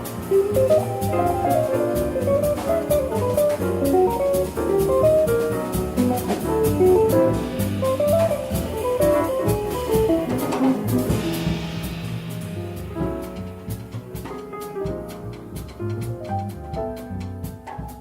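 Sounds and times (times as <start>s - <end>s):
jazz solo line: 0.0s - 17.8s
double bass: 0.0s - 18.0s
drum kit with cymbal strokes: 0.0s - 18.0s.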